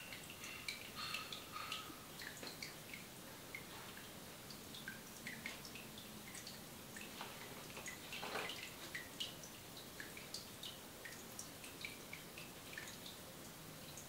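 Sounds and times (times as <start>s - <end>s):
wet ticks and drips: 0.0s - 14.0s.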